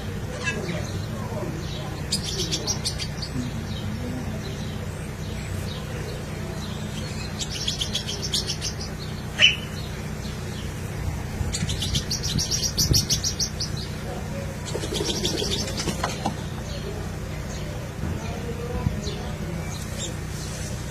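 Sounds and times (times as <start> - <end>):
bird chipping calls: 0.0 - 17.8
low steady hum: 0.0 - 20.9.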